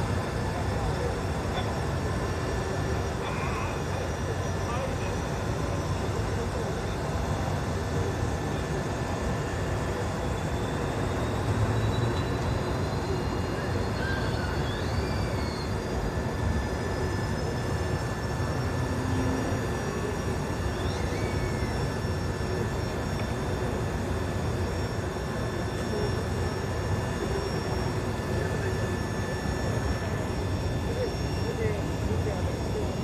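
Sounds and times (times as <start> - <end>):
faint high whine: 0.0 - 33.0.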